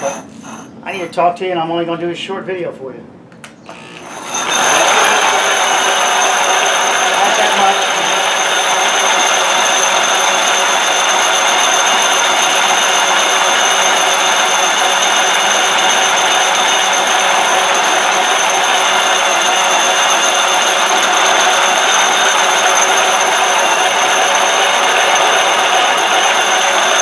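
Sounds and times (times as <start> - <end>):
concrete polisher motor whine: 3.7 - 27.0
pads grinding on concrete: 4.2 - 27.0.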